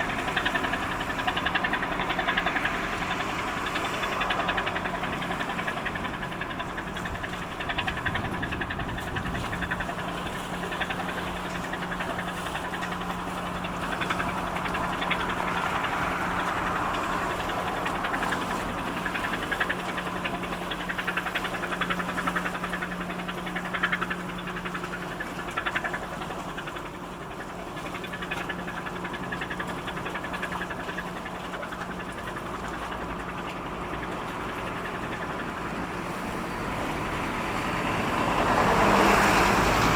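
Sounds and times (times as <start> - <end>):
ship engine low hum: 0.0 - 39.9.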